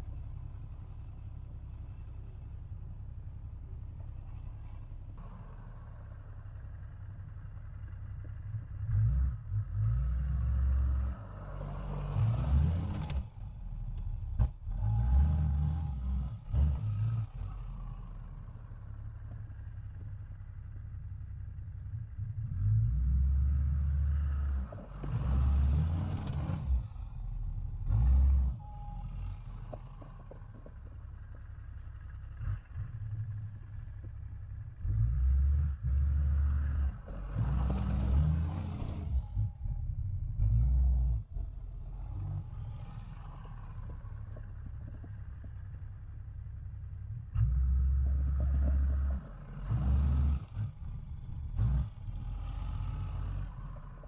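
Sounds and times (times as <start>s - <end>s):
pickup engine running under load: 0.0s - 54.0s.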